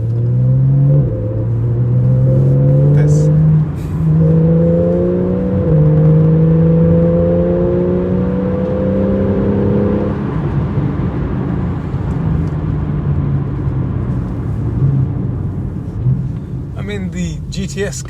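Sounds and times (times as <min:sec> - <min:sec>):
car engine running: 0:00.0 - 0:08.3, 0:09.4 - 0:18.0
road and tyre rumble: 0:00.0 - 0:18.0.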